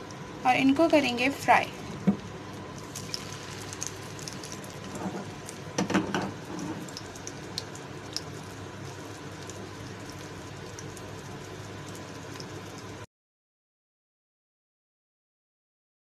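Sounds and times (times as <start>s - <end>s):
meat sizzling in oil: 0.0s - 13.1s.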